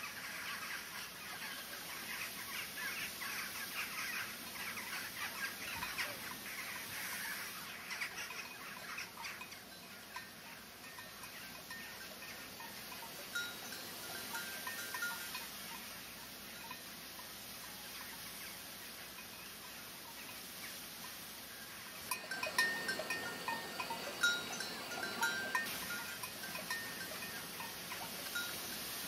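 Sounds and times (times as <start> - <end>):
birds chirping: 0.0 - 20.9, 21.5 - 28.9
faint hiss: 0.0 - 29.0.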